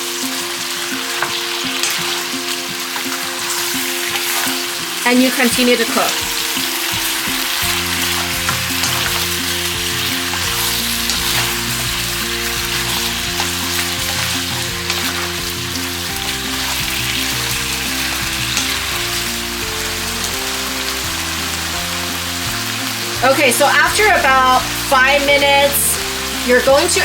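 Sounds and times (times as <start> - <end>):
chicken sizzling in oil: 0.0 - 27.0
soft background music: 0.0 - 27.0.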